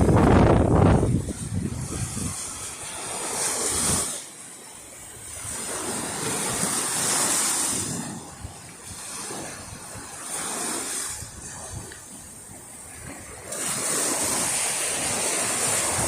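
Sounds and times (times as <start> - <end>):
wind on microphone: 0.0 - 4.3, 4.9 - 16.0
waves breaking on shore: 0.0 - 16.0.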